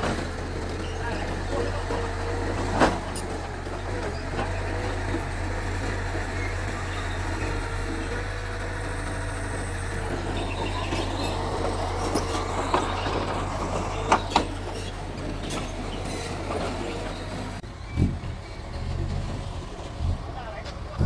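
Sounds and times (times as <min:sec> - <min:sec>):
bulldozer diesel engine drone: 0:00.0 - 0:21.0
crawler tracks squealing and clanking: 0:00.0 - 0:21.0.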